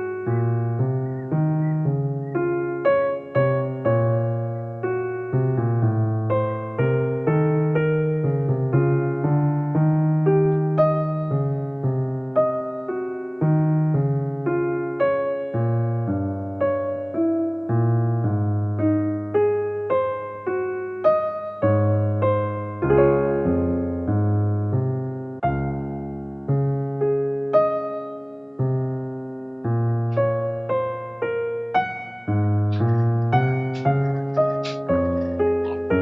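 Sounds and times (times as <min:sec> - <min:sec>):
soft electric piano music: 0:00.0 - 0:36.0.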